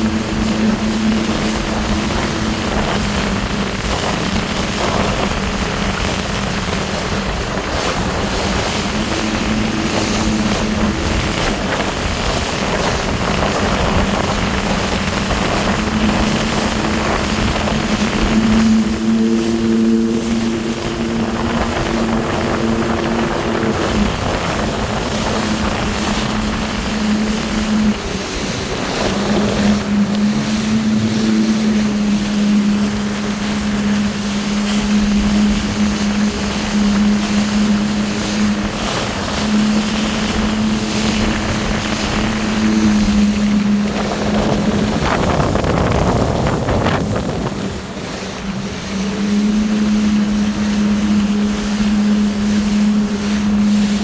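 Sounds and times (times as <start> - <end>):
jet ski engine drone: 0.0 - 54.0
rushing water: 0.0 - 54.0
wind buffeting microphone: 0.0 - 54.0.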